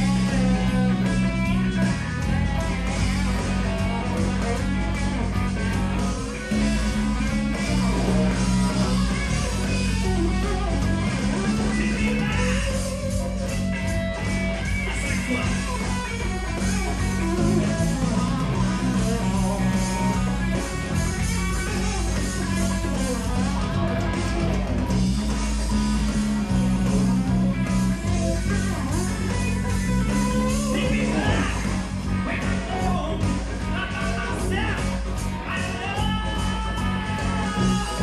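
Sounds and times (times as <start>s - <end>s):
bass line: 0.0s - 38.0s
drums: 0.0s - 38.0s
electric guitar lead: 0.0s - 38.0s.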